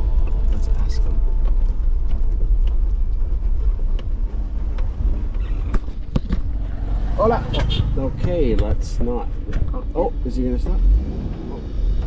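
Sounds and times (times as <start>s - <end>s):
vehicle rumble on rough road: 0.0s - 12.0s.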